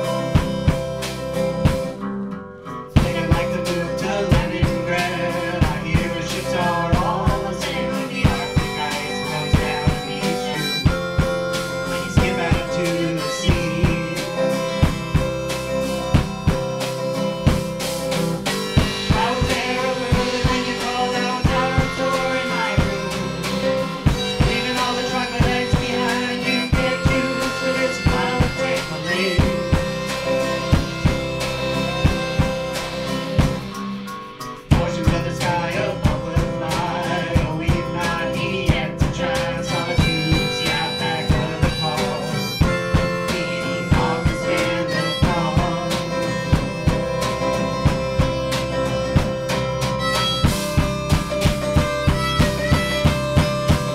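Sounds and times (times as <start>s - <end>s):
drum kit beat: 0.0s - 53.9s
harmonica: 0.0s - 53.9s
strummed acoustic guitar: 0.0s - 53.9s.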